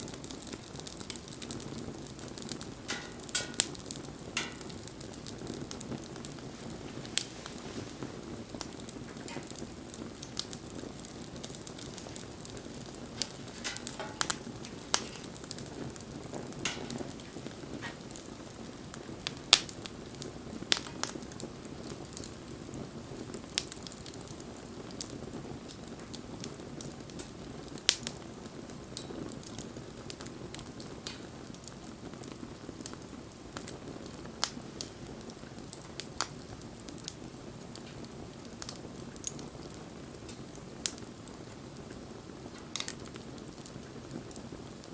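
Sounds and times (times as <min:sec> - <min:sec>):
fire popping and crackling: 0:00.0 - 0:44.9
low rush of flame: 0:00.0 - 0:44.9.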